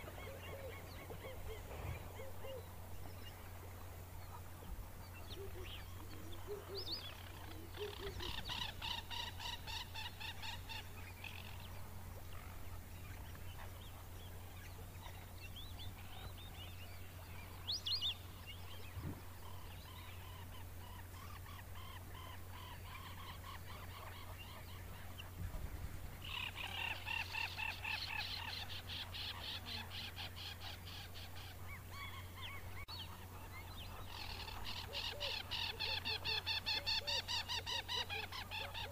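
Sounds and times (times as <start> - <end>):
faint scattered animal calls: 0.0 - 38.9.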